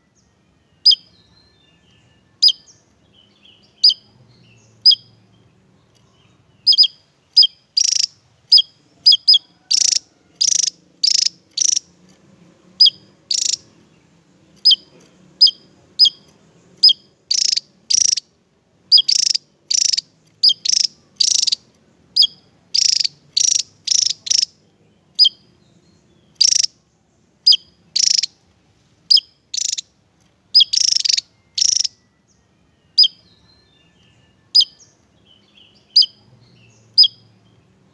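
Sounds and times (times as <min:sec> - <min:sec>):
bird chirping high sharp notes: 0:00.0 - 0:11.9, 0:12.8 - 0:14.0, 0:14.6 - 0:18.3, 0:18.9 - 0:24.6, 0:25.2 - 0:26.9, 0:27.5 - 0:28.4, 0:29.1 - 0:29.9, 0:30.5 - 0:37.6.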